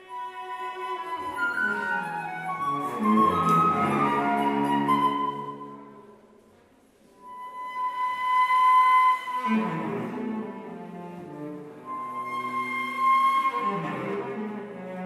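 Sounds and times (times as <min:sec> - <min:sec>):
cello playing: 0:00.0 - 0:06.0, 0:07.2 - 0:15.0
flute playing: 0:00.0 - 0:06.2, 0:07.2 - 0:10.8, 0:11.8 - 0:14.5.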